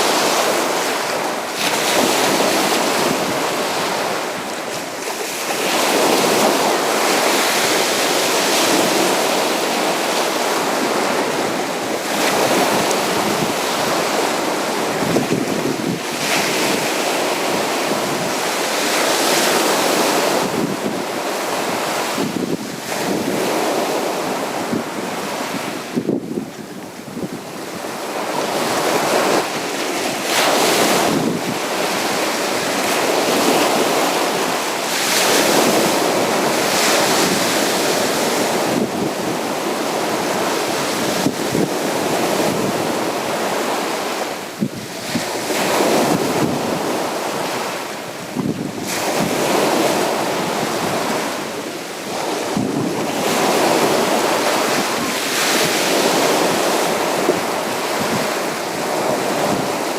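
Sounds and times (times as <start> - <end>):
sea waves breaking on beach: 0.0 - 59.9.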